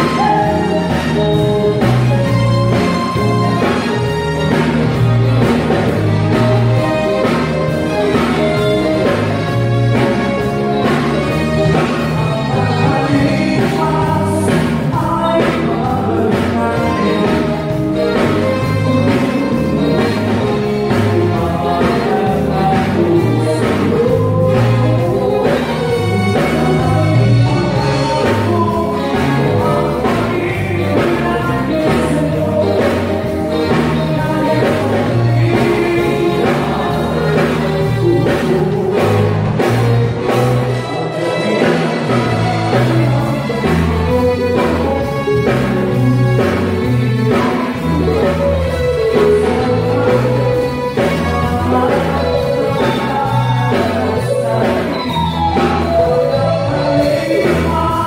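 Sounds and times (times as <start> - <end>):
live band playing: 0.0 - 58.0
person singing: 0.0 - 58.0.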